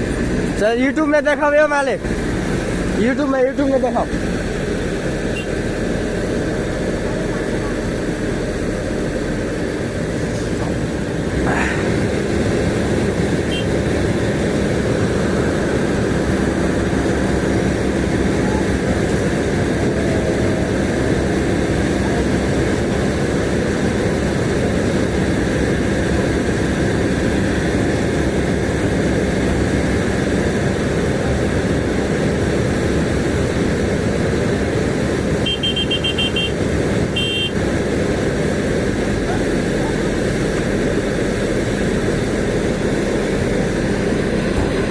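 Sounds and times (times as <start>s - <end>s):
heavy vehicle engine humming: 0.0s - 44.9s.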